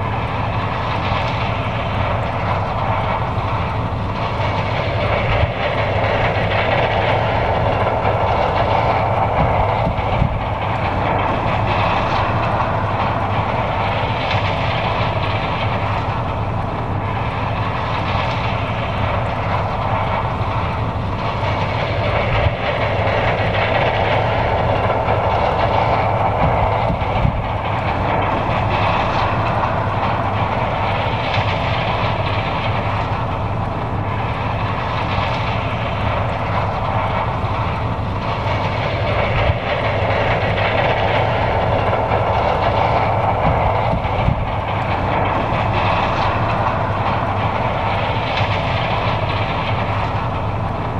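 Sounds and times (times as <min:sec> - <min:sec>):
combine harvester drone and rattle: 0:00.0 - 0:50.9.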